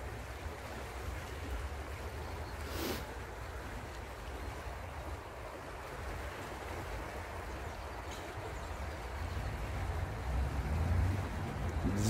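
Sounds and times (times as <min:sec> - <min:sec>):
river water rushing past stones: 0:00.0 - 0:12.0.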